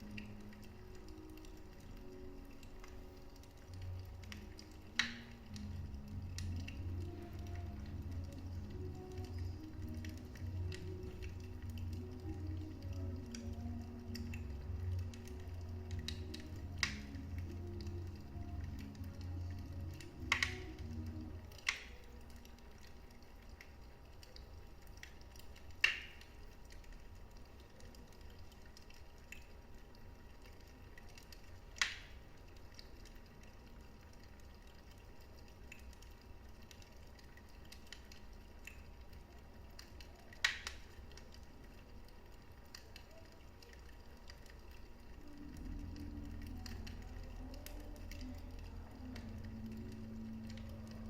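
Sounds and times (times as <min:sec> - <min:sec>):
fire crackling: 0:00.0 - 0:51.0.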